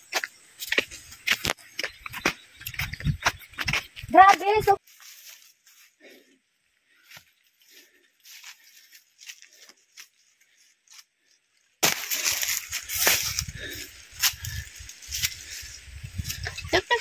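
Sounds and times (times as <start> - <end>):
footsteps in grass: 0.0 - 6.2, 7.0 - 17.0.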